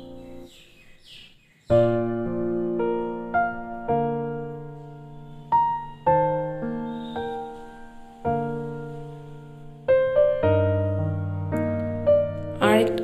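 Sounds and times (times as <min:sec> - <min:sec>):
slow piano music: 0:00.0 - 0:01.0, 0:01.7 - 0:13.0.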